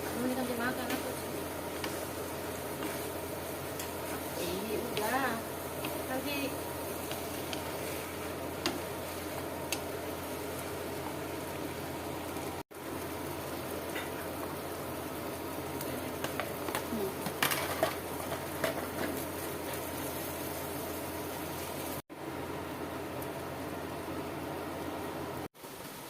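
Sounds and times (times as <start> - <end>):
noodles sizzling in a pan: 0.0 - 26.0.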